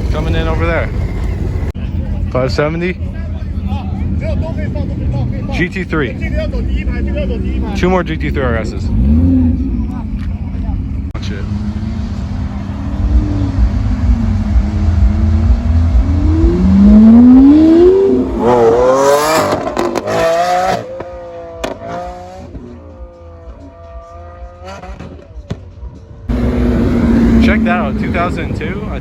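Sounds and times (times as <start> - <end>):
sports car accelerating: 4.0 - 29.0.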